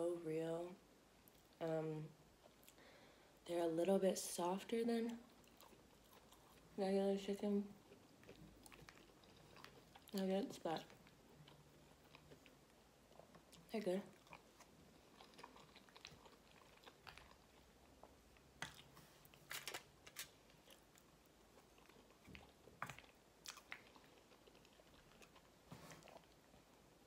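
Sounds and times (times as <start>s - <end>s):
faint chewing: 2.4s - 3.0s, 5.0s - 27.0s.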